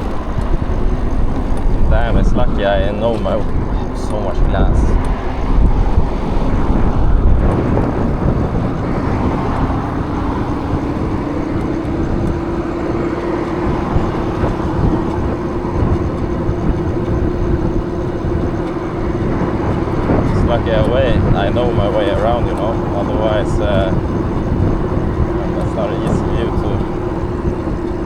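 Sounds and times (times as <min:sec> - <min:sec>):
electric motor whine: 0:00.0 - 0:28.0
wind: 0:00.0 - 0:28.0.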